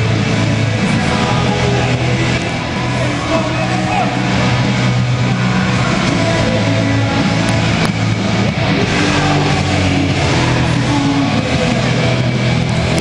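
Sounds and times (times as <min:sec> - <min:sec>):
din of large crowd: 0:00.0 - 0:13.0
loud rock music over loudspeakers: 0:00.0 - 0:13.0.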